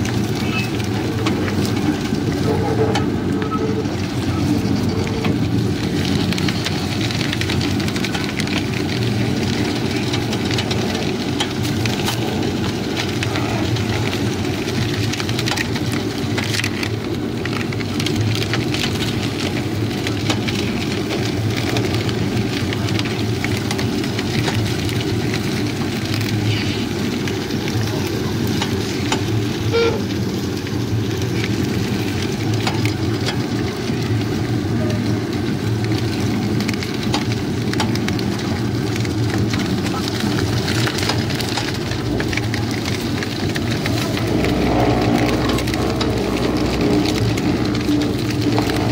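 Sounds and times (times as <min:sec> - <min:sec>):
cane stalks crackling and snapping: 0:00.0 - 0:48.9
crushing machine humming: 0:00.0 - 0:48.9.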